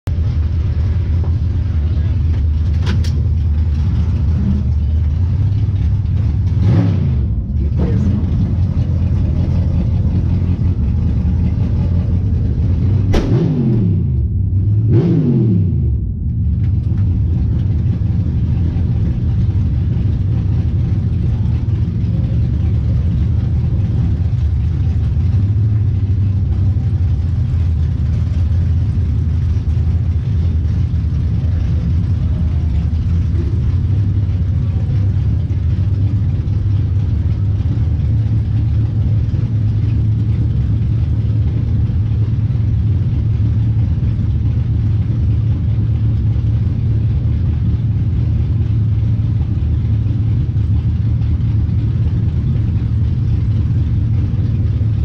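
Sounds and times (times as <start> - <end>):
car engine idling: 0.0 - 55.0
engine throttle blips: 0.0 - 55.0.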